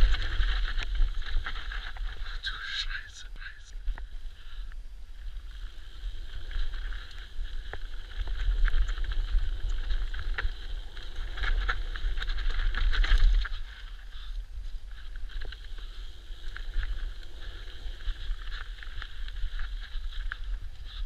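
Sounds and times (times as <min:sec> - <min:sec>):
bike clicks and rattles: 0:00.0 - 0:02.3, 0:05.5 - 0:21.0
wind rumbling on microphone: 0:00.0 - 0:21.0.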